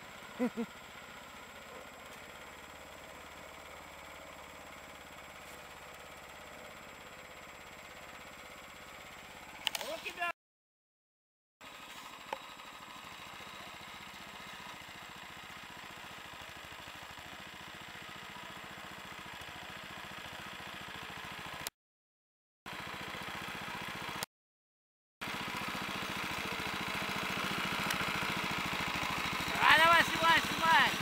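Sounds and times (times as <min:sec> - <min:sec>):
walk-behind tractor engine running: 0:00.0 - 0:10.3, 0:11.6 - 0:21.7, 0:22.7 - 0:24.3, 0:25.2 - 0:31.0.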